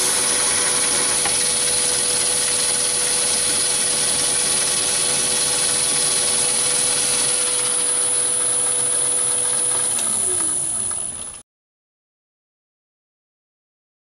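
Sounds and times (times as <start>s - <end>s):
lathe running: 0.0s - 11.4s
thin steady whine: 0.0s - 11.4s.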